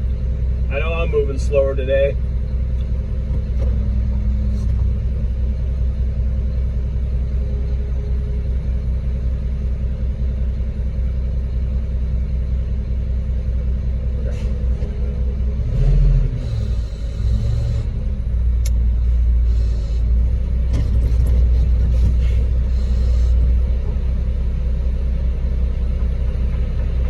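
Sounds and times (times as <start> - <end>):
diesel truck engine rumbling: 0.0 - 27.0.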